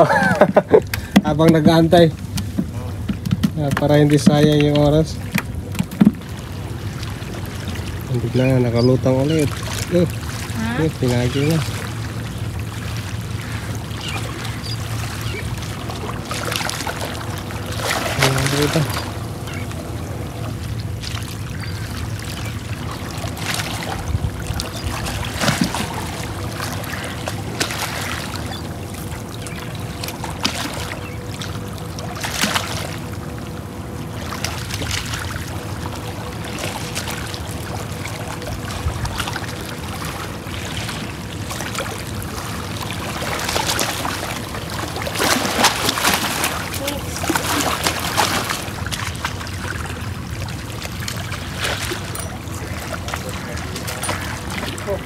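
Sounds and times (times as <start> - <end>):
faint steady hum: 0.0 - 55.0
small waves lapping against rocks: 0.0 - 55.0.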